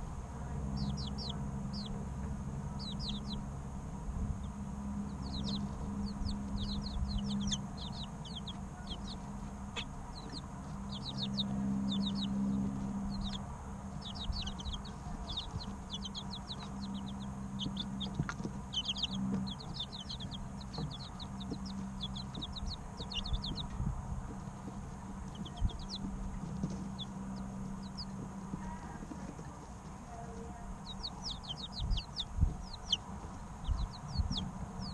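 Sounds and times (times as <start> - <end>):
chicks peeping: 0.0 - 34.9
steady low hum: 0.0 - 34.9.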